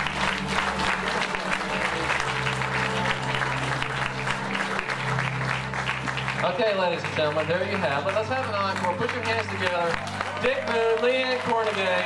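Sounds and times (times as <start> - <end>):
audience applauding: 0.0 - 12.0
music of low held notes: 0.0 - 12.0.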